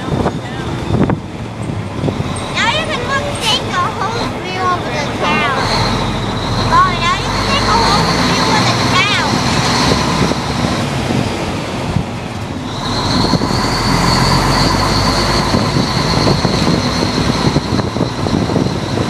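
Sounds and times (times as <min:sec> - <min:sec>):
road and wind noise: 0:00.0 - 0:19.0
truck engine running: 0:00.0 - 0:19.0.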